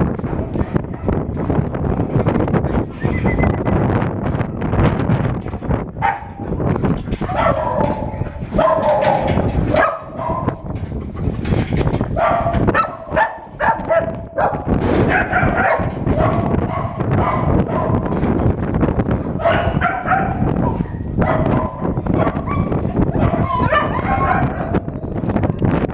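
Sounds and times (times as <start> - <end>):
wire-mesh gate rattling: 0.0 - 25.5
dogs barking and yipping: 0.1 - 3.9, 5.4 - 25.9.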